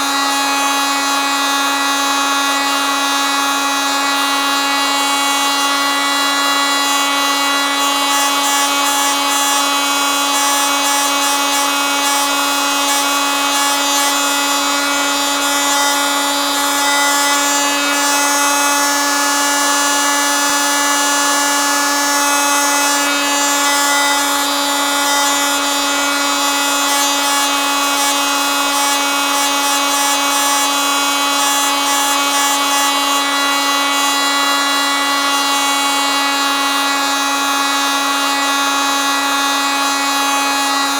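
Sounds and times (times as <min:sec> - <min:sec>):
oscillating multitool buzzing: 0:00.0 - 0:40.9.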